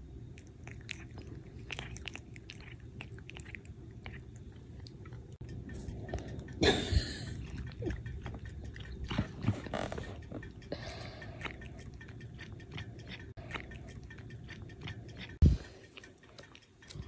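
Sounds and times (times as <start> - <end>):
cat chewing food: 0.0 - 17.0.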